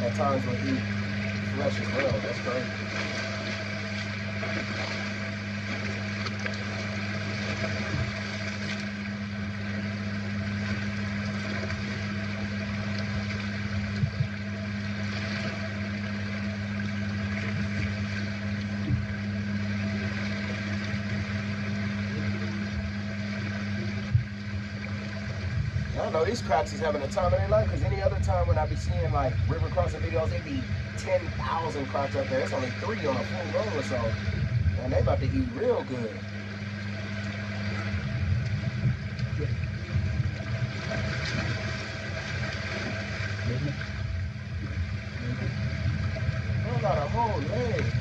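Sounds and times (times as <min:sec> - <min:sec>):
engine idling drone: 0:00.0 - 0:48.0.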